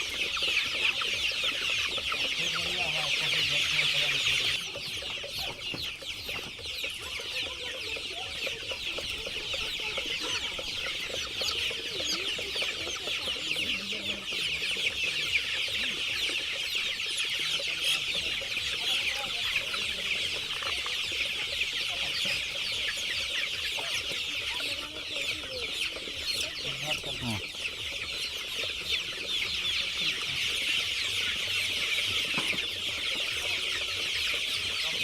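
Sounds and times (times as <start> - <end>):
chickens chirping and peeping: 0.0 - 35.0
chickens clucking: 0.0 - 35.0.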